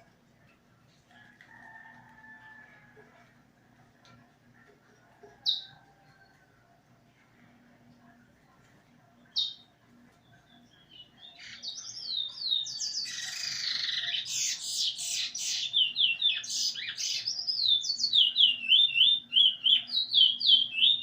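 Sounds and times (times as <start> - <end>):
songbird chirping and warbling: 0.0 - 21.0.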